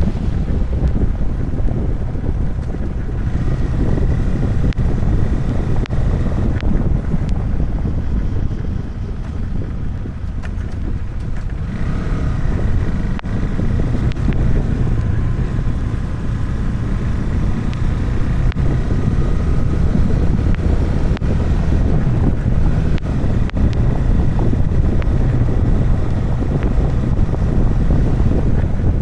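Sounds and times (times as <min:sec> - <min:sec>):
vehicle rumble: 0:00.0 - 0:29.0
wind buffeting microphone: 0:00.0 - 0:29.0.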